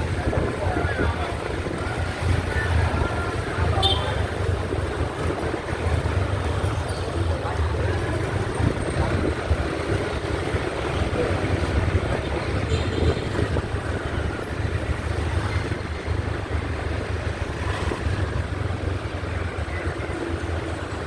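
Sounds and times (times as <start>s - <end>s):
motorbike engine and road noise: 0.0s - 21.0s.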